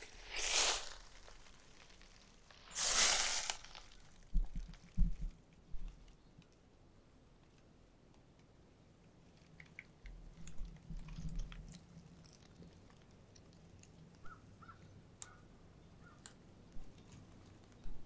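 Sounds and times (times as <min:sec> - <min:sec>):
light clicks and crackles: 0:01.0 - 0:15.4, 0:16.0 - 0:18.0.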